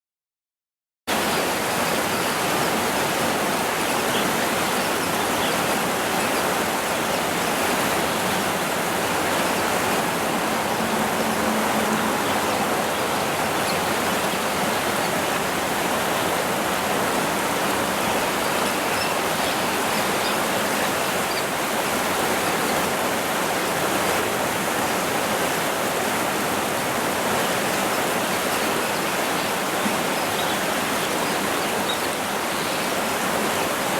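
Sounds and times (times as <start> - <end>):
flowing river water: 1.1 - 33.9.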